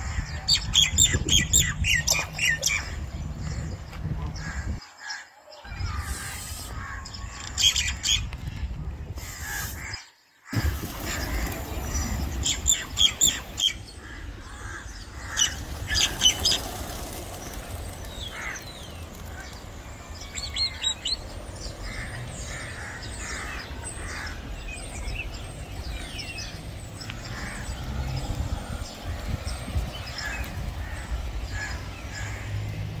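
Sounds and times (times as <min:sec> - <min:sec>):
birds chirping and squawking: 0:00.0 - 0:33.0.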